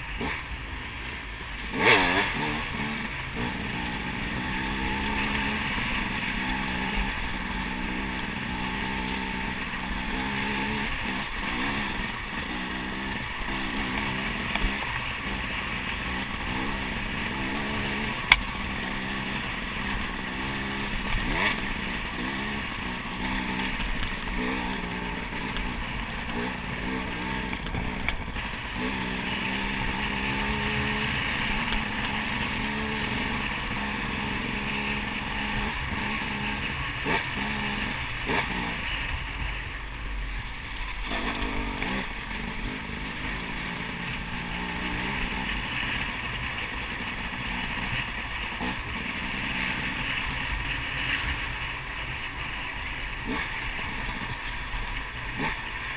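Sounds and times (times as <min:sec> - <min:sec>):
dirt bike engine revving: 0:00.0 - 0:00.8, 0:01.6 - 0:55.9.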